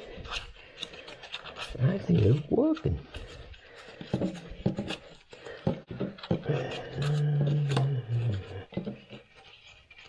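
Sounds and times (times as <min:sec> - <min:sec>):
tool clicking and scraping in faucet: 0:00.0 - 0:10.0.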